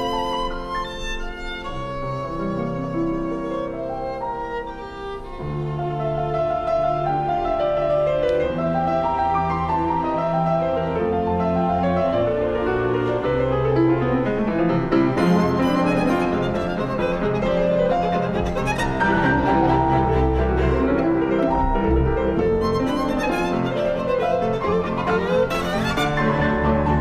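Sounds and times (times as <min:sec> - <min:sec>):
bowed strings: 0:00.0 - 0:27.0
piano: 0:00.0 - 0:27.0.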